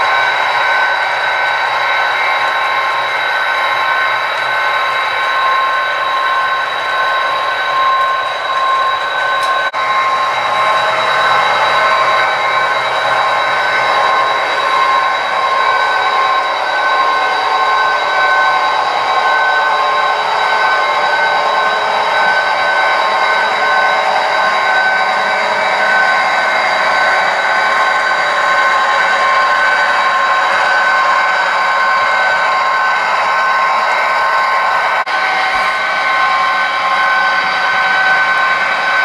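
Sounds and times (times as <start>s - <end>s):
model train wheels whirring: 0.0s - 39.0s.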